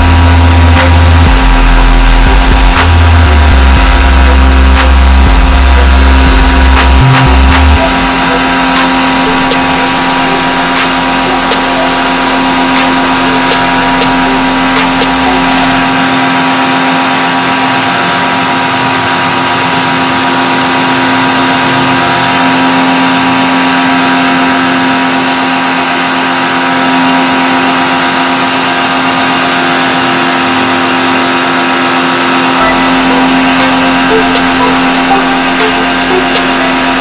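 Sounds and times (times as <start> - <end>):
pressure washer motor humming: 0.0 - 37.0.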